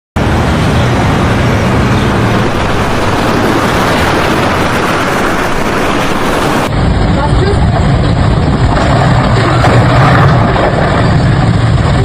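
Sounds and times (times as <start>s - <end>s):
floodwater roaring: 0.2s - 12.0s.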